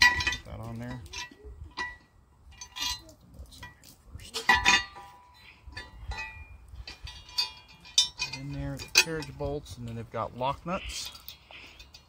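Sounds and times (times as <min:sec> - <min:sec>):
metal parts clanking: 0:00.0 - 0:03.8, 0:04.4 - 0:12.0.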